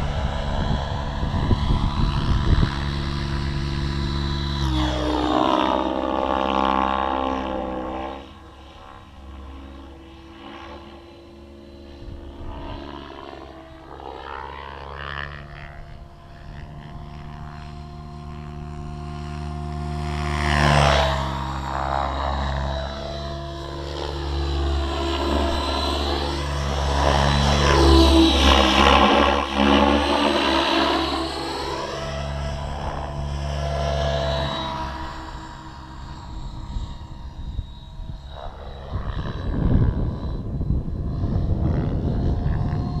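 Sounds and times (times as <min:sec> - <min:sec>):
model helicopter rotor hum: 0:00.0 - 0:43.0.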